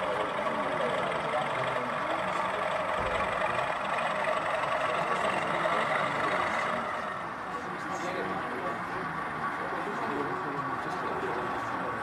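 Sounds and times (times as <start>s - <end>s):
murmur of many people talking: 0.0s - 12.0s.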